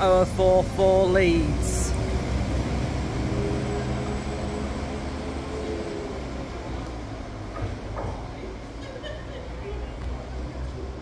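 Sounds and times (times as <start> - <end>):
diesel train engine humming: 0.0 - 11.0.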